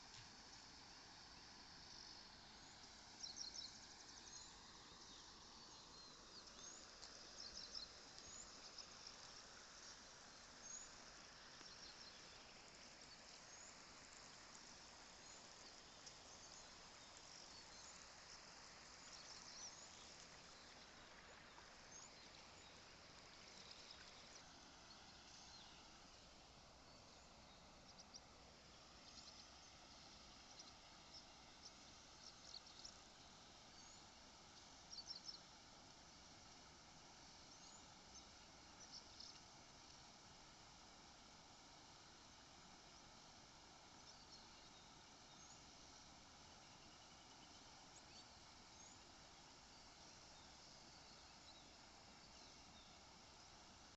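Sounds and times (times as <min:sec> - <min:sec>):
small birds chirping: 0:00.0 - 0:53.9
steady background hiss: 0:00.0 - 0:53.9.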